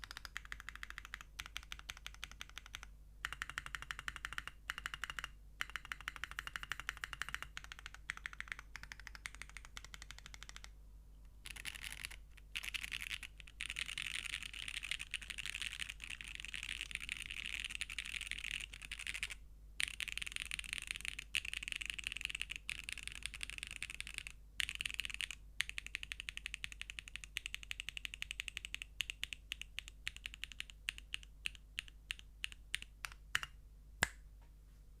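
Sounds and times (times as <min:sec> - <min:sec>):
mechanical keyboard keystrokes: 0:00.0 - 0:10.7, 0:11.5 - 0:33.5.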